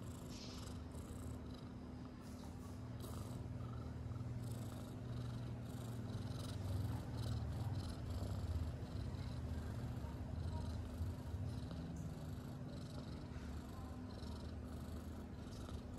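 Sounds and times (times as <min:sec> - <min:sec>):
cat purring: 0:00.0 - 0:15.9.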